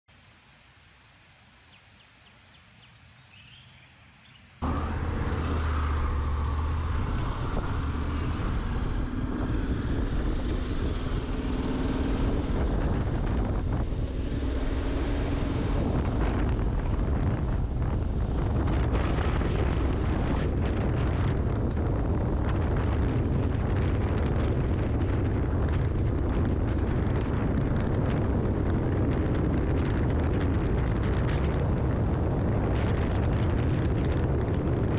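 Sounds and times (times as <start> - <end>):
motorcycle engine drone: 4.6 - 34.9
wind rushing: 4.6 - 34.9.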